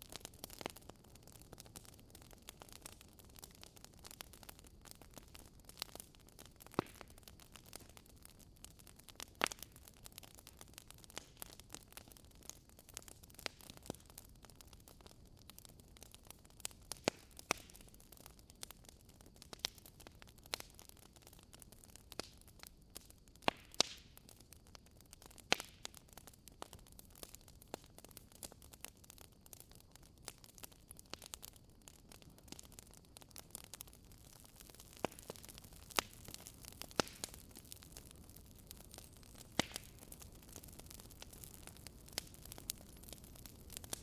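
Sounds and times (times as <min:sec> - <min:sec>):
fire crackling and popping: 0:00.0 - 0:44.0
soft low fire hiss: 0:00.0 - 0:44.0.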